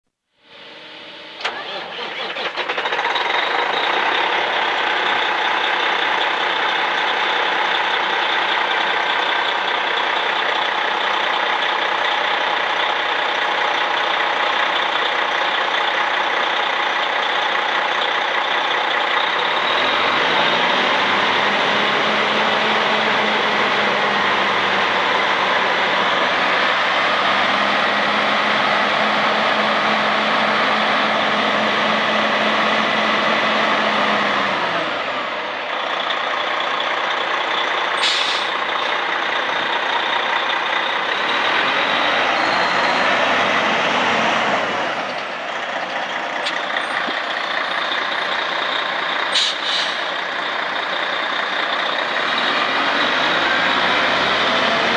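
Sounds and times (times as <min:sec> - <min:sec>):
diesel truck engine running: 0:00.6 - 0:54.9.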